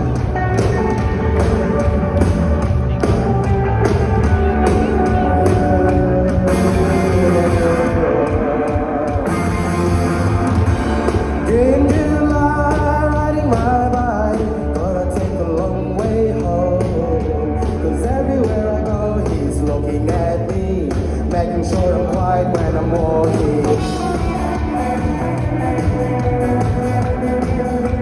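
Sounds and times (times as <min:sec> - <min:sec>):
rock band playing live: 0:00.0 - 0:28.0
person singing lead vocal: 0:04.3 - 0:28.0.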